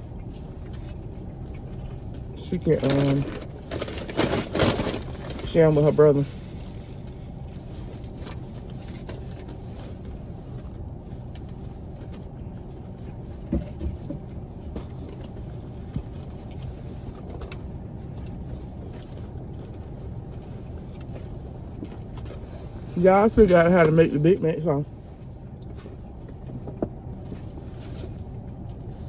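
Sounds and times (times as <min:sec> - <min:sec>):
car idling from inside: 0:00.0 - 0:29.0.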